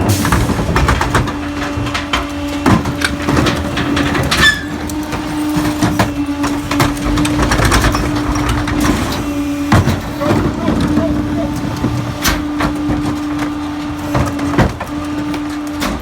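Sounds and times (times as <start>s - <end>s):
garbage truck engine humming: 0.0s - 16.0s
trash compacting knocks and cracks: 0.0s - 16.0s.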